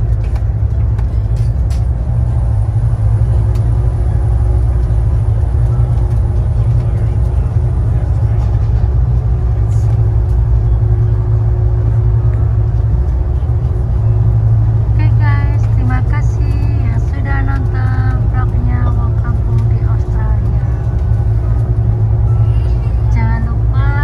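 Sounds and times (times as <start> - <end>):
ferry engines droning: 0.0 - 24.0.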